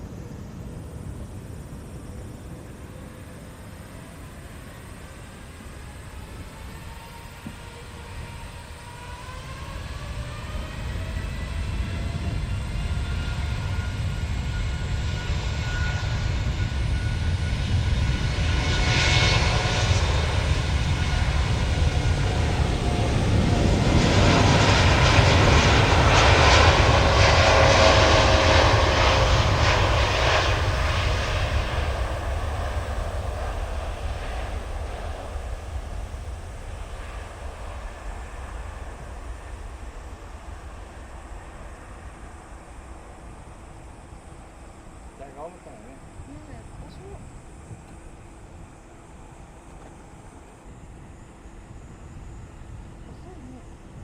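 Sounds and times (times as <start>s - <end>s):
jet engines at takeoff: 0.0s - 54.0s
rising engine whine: 0.0s - 54.0s.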